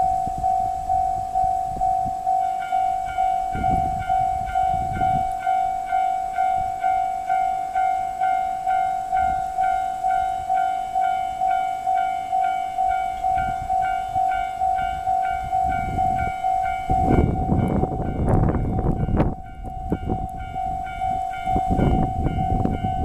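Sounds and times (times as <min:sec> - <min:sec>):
freight train rumbling: 0:00.0 - 0:23.0
level crossing alarm bell: 0:00.0 - 0:23.0.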